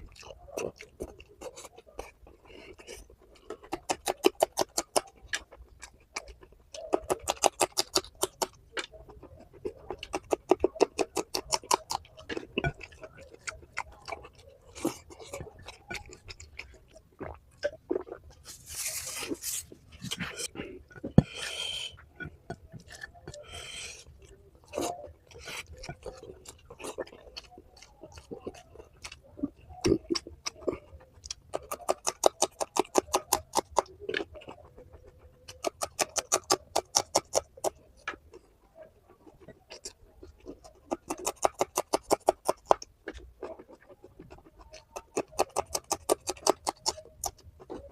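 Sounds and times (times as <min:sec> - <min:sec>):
mouth clicks while eating: 0:00.0 - 0:18.5, 0:20.0 - 0:47.9
rapid lip smacking: 0:00.0 - 0:38.5, 0:39.1 - 0:47.9.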